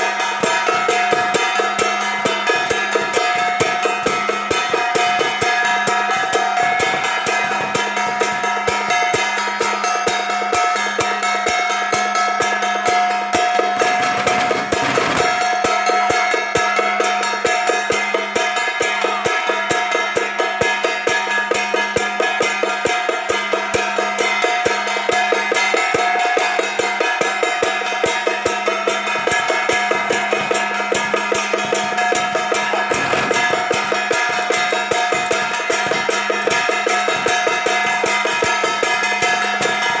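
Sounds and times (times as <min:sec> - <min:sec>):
drum struck in fast rhythm: 0:00.0 - 0:40.0
ringing gongs and cymbals: 0:00.0 - 0:40.0.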